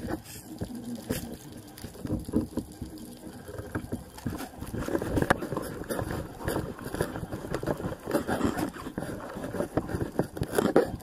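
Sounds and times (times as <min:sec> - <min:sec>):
water gushing and bubbling: 0:00.0 - 0:11.0.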